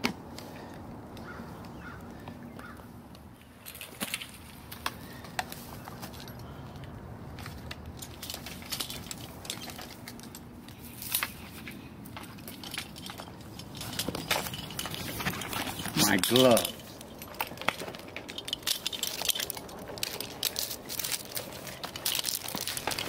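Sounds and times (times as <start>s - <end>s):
metal carabiners clinking: 3.5s - 23.0s.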